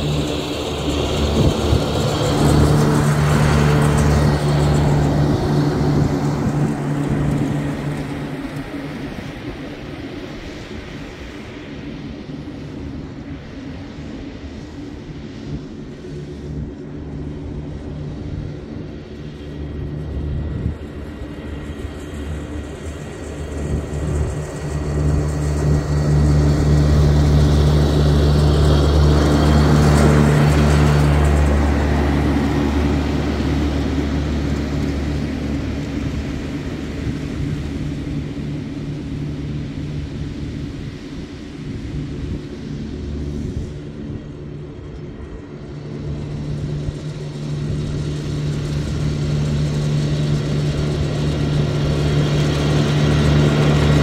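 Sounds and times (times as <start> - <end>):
ride-on lawn mower engine: 0.0 - 54.0.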